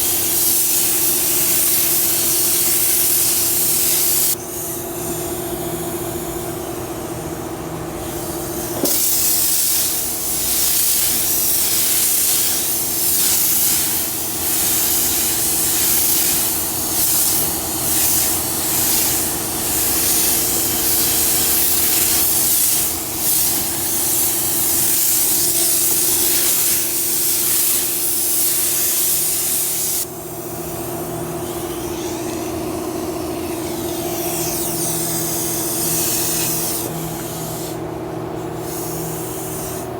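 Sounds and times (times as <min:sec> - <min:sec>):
hiss in repeated strokes: 0:00.0 - 0:05.9, 0:08.0 - 0:32.6, 0:33.4 - 0:37.8, 0:38.6 - 0:39.9.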